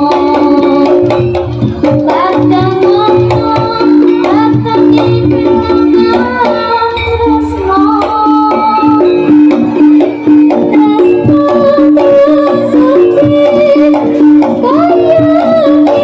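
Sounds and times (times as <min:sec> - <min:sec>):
gliding melody line: 0:00.0 - 0:16.0
hand drums playing busy rhythm: 0:00.0 - 0:16.0.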